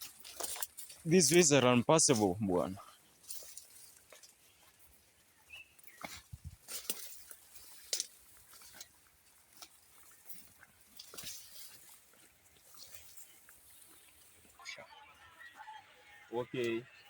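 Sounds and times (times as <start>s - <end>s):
footsteps on muddy path: 0.0s - 15.2s.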